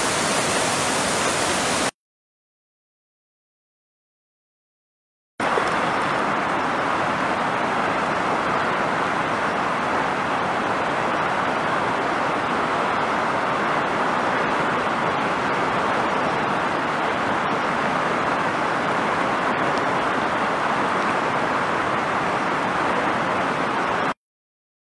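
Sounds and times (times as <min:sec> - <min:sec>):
flooded creek water rushing: 0:00.0 - 0:01.9, 0:05.4 - 0:24.2.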